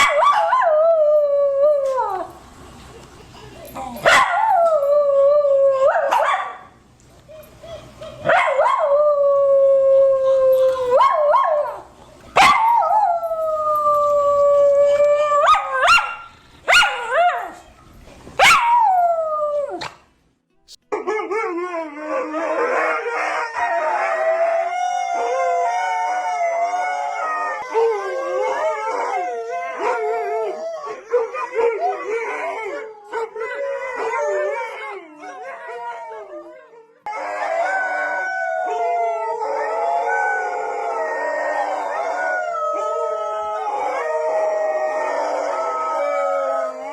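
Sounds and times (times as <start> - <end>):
dogs howling together: 4.0 - 6.7, 7.4 - 17.6, 21.0 - 46.9.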